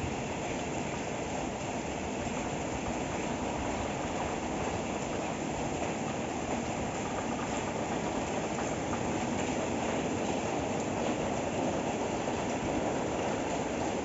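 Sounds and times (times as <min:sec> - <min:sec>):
rain on metal roofs: 0:00.0 - 0:14.0.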